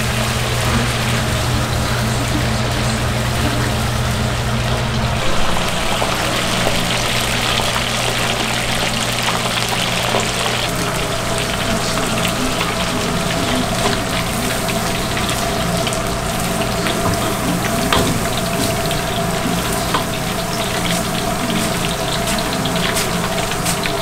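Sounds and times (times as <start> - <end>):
oil sizzling and bubbling: 0.0 - 24.0.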